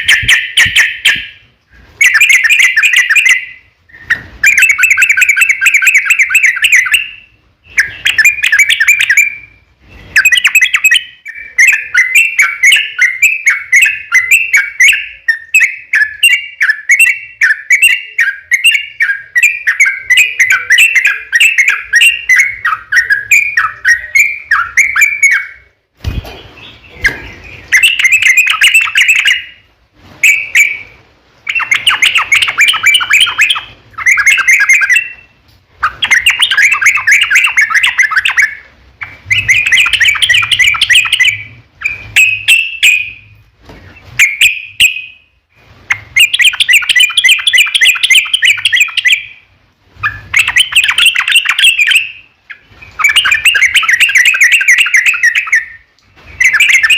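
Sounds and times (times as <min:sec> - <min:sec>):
bird singing bubbling song: 0:00.0 - 0:43.4, 0:44.2 - 0:56.9.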